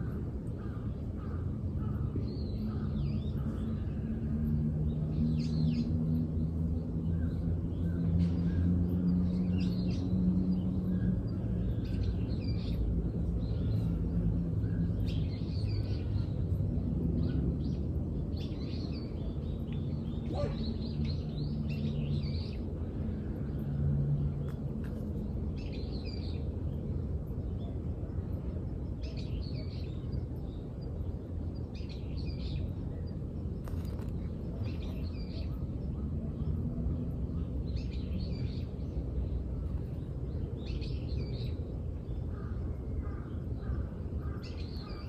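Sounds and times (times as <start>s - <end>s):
low outdoor rumble: 0.0s - 45.0s
songbirds chirping and singing: 0.0s - 45.0s.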